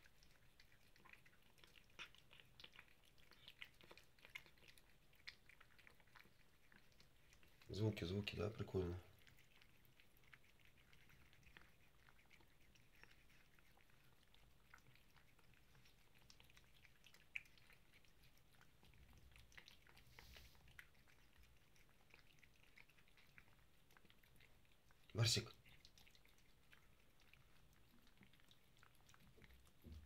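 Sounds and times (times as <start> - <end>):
cat chewing food: 0.0 - 30.0.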